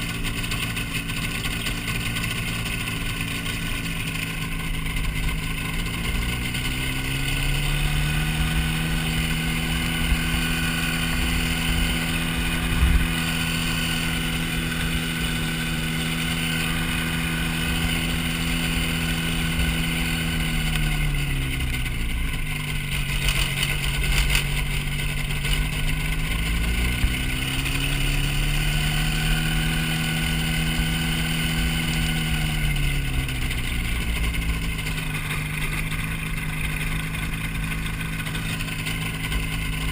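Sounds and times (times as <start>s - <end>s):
light airplane engine and propeller: 0.0s - 39.9s.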